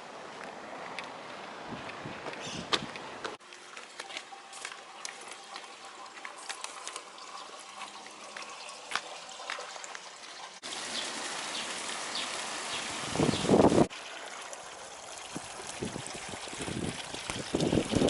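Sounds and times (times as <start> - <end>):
spring water trickling and splashing: 3.4 - 18.0.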